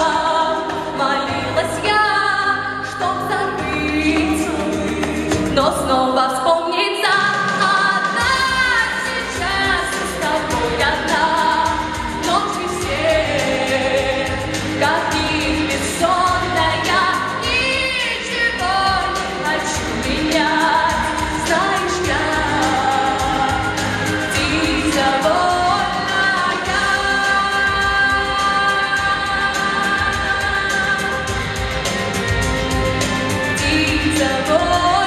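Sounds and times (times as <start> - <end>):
woman singing into microphone: 0.0 - 32.7, 33.3 - 35.0
pop music accompaniment: 0.0 - 35.0.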